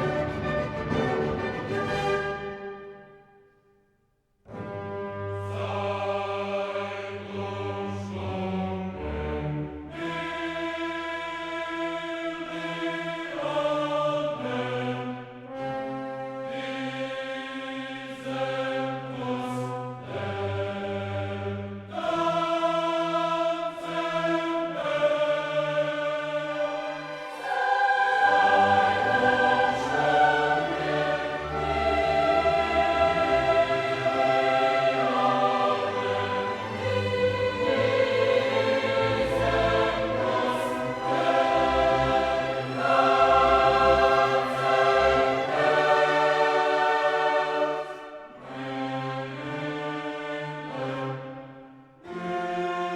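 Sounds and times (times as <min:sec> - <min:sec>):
choral and orchestral music: 0:00.0 - 0:03.7, 0:04.4 - 0:52.9.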